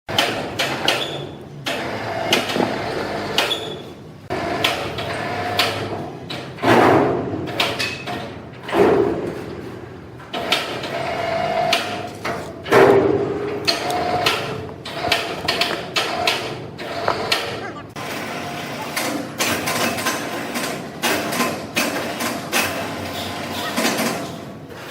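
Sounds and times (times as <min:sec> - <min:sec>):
sawmill machinery knocking and clattering: 0:00.1 - 0:24.9.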